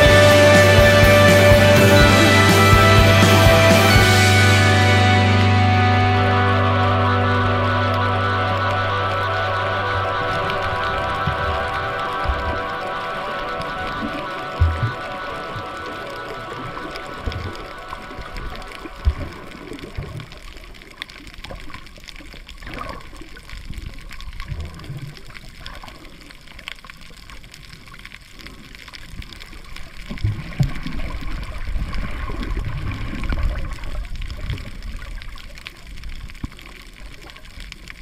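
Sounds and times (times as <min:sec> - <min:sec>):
muffled underwater water wash: 0:00.0 - 0:38.0.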